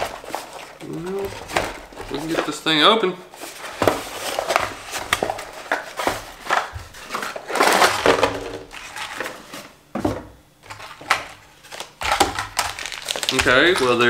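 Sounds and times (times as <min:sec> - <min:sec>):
plastic packaging crinkling: 0:00.0 - 0:02.7, 0:03.4 - 0:09.4, 0:10.6 - 0:14.0
cardboard flaps rustling: 0:00.0 - 0:14.0.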